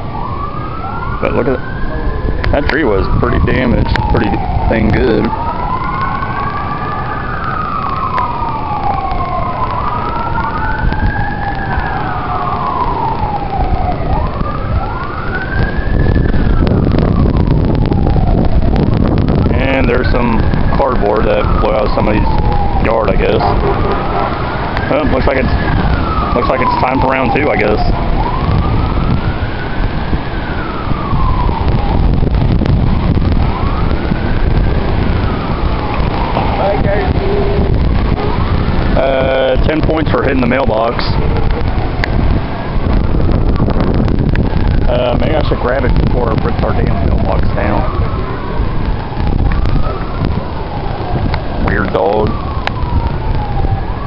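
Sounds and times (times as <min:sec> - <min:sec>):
sirens wailing: 0:00.0 - 0:54.0
wind buffeting microphone: 0:00.0 - 0:54.0.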